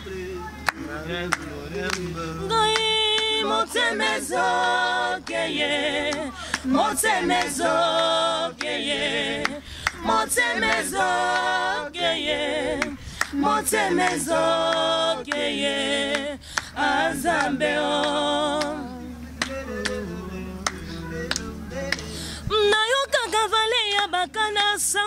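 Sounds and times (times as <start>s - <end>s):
group singing a cappella: 0.0s - 25.0s.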